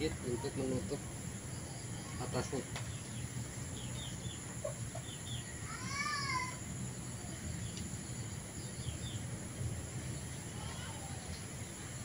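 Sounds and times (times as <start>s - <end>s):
high outdoor hiss: 0.0s - 12.0s.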